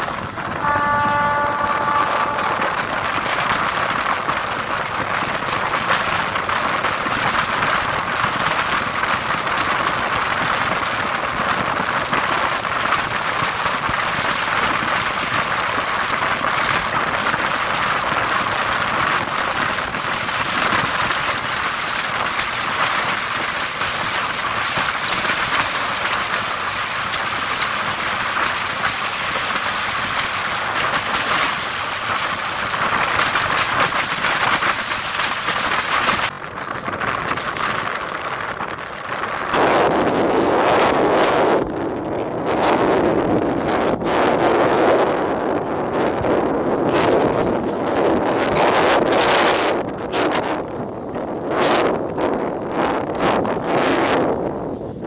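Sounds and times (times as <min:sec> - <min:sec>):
air rushing past train: 0:00.0 - 0:55.0
train wheels on rails: 0:00.0 - 0:55.0.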